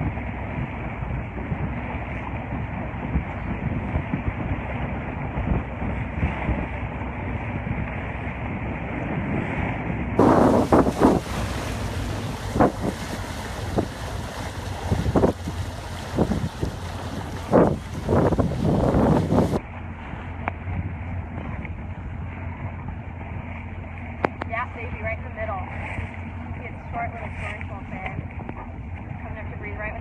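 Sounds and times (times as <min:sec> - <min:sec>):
boat engine running: 0:00.0 - 0:30.0
water noise: 0:00.0 - 0:30.0
wind buffeting microphone: 0:00.0 - 0:30.0.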